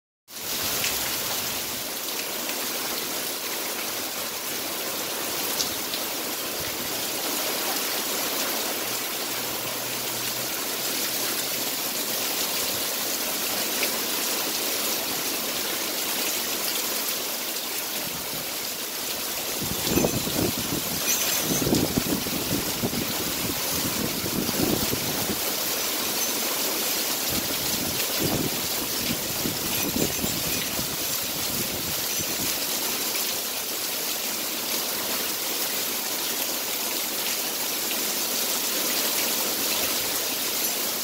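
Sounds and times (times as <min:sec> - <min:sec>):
heavy rain falling: 0:00.3 - 0:41.0.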